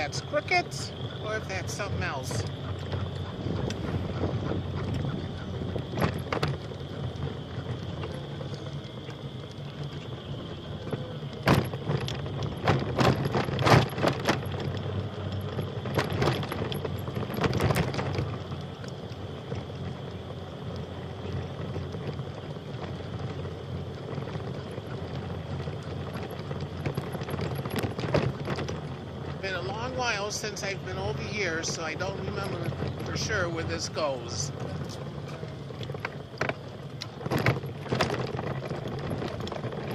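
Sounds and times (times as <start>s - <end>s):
tyres rumbling: 0.0s - 39.9s
wind: 0.0s - 39.9s
bike rattling clicks: 2.4s - 33.9s, 34.6s - 39.9s.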